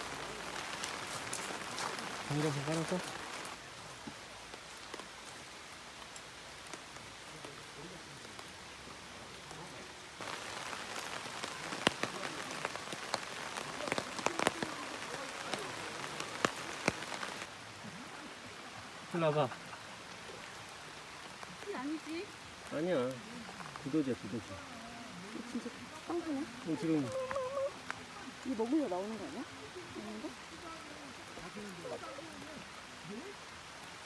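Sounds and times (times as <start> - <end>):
sharp raindrops hitting a surface: 0.0 - 34.0
steady rain falling: 0.0 - 34.0.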